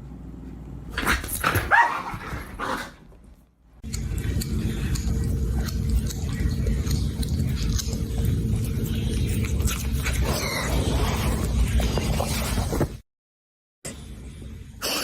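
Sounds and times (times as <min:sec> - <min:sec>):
faint hum: 0:00.0 - 0:12.9, 0:13.9 - 0:15.0.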